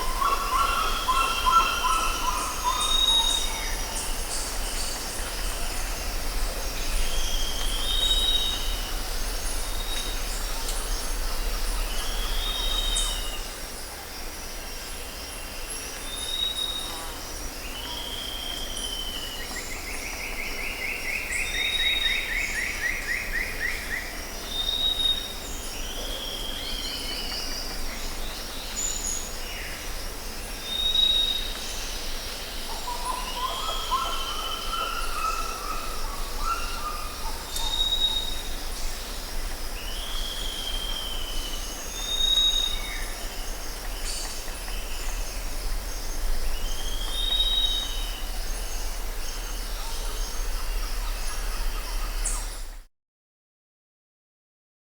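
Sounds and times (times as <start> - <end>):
insect chorus: 0.0 - 52.8.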